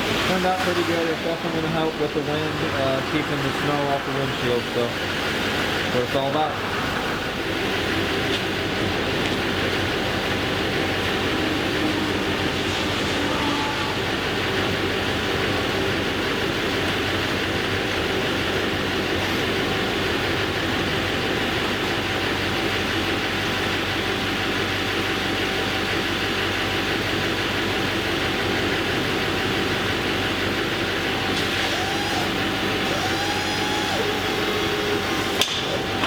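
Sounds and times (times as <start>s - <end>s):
vehicle engine running: 0.0s - 13.2s, 14.0s - 36.0s.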